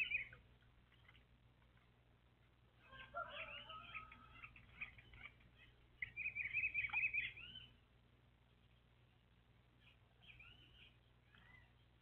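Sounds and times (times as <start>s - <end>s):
fast twittering birdsong: 0.0s - 1.4s, 2.8s - 12.0s
songbirds chirping and whistling: 0.0s - 12.0s.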